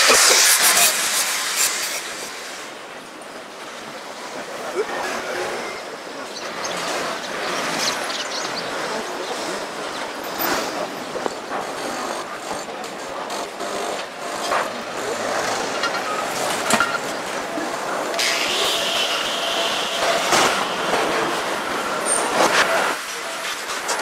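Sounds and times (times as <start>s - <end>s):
faint voices: 0.0s - 24.0s
rushing traffic: 0.0s - 24.0s.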